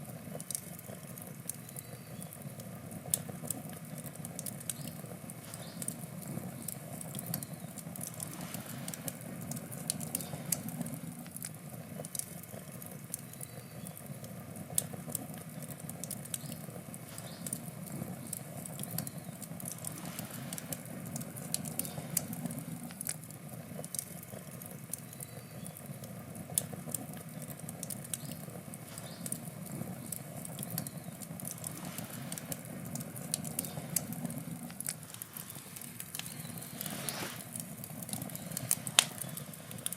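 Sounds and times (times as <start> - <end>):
campfire flame rushing: 0.0 - 39.9
wood crackling and popping: 0.0 - 39.9.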